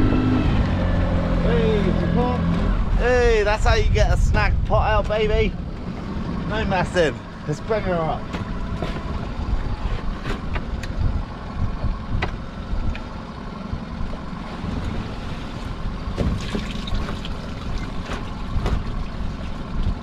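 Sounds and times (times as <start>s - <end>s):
idling outboard motor hum: 0.0s - 20.0s
wind and water against hull: 0.0s - 20.0s.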